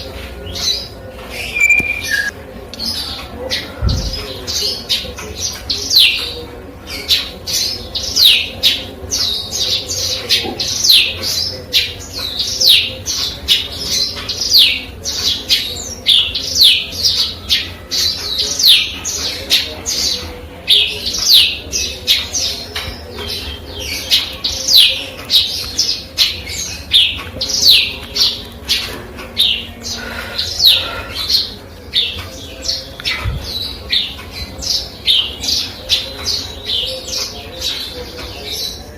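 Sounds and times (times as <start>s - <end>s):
sparrow singing high chirps: 0.5s - 6.3s, 7.0s - 38.9s.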